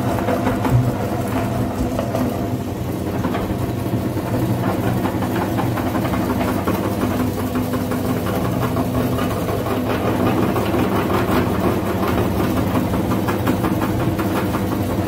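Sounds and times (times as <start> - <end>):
meat grinder motor running: 0.0 - 15.0.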